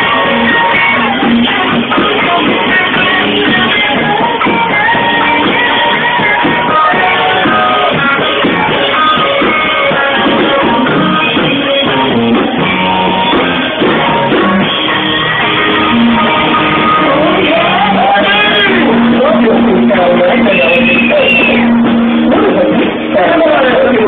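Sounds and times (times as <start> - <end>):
loud rock music with guitar: 0.0 - 24.0.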